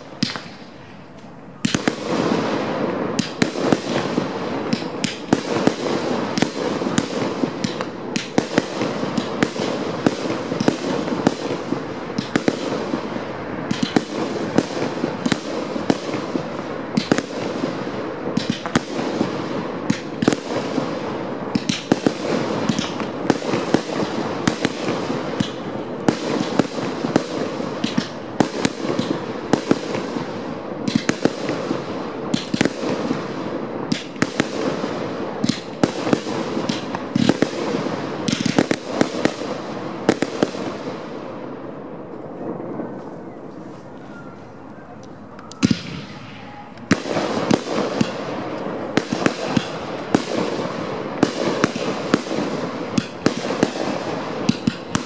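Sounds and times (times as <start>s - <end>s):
fireworks bangs and cracks: 0.0s - 55.0s.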